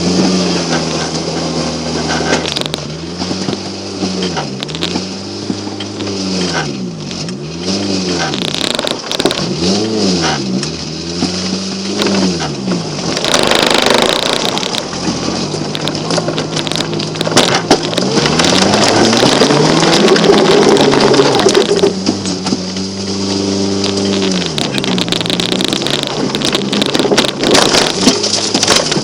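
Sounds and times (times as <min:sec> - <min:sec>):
car engine revving: 0:00.0 - 0:29.0
loud rushing scrape: 0:00.0 - 0:29.0.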